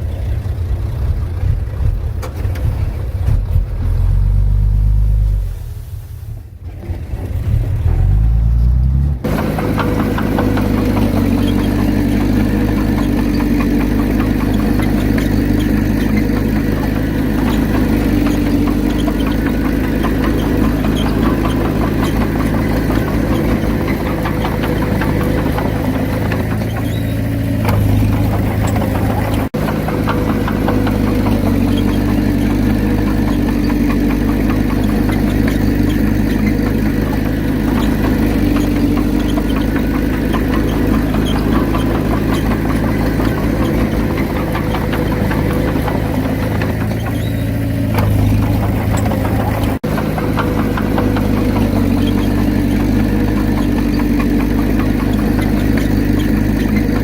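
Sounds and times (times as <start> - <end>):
heavy diesel engine clattering: 0.0 - 5.6, 6.3 - 57.0.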